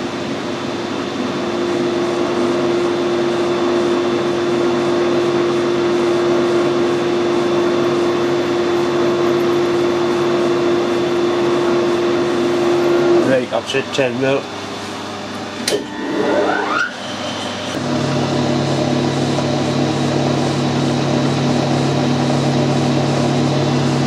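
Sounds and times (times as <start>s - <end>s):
metal lathe humming: 1.2s - 24.0s.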